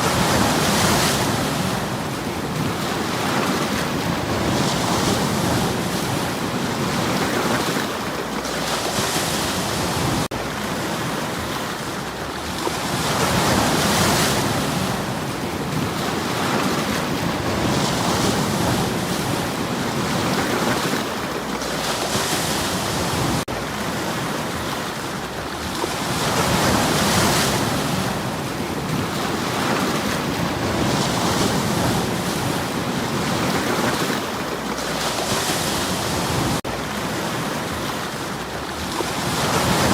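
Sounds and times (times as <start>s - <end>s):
waves breaking over stones: 0.0s - 39.9s.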